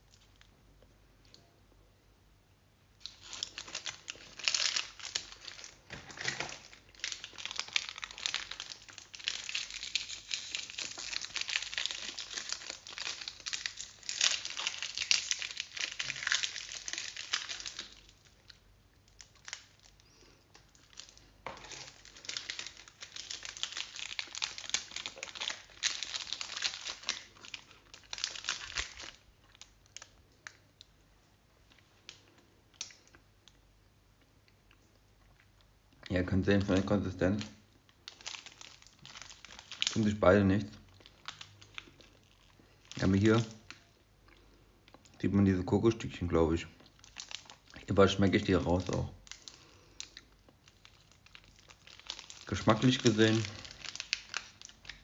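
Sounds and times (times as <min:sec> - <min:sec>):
plastic wrappers crinkling: 0:03.0 - 0:30.9, 0:36.0 - 0:55.0.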